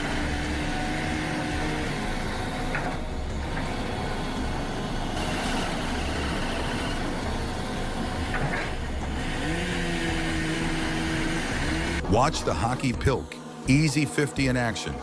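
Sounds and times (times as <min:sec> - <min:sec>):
engine and machinery rumbling: 0:00.0 - 0:12.1.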